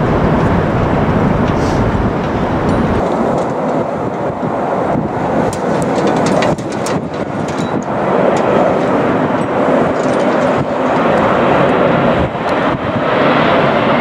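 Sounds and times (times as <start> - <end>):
airliner jet noise: 0.0 - 14.0.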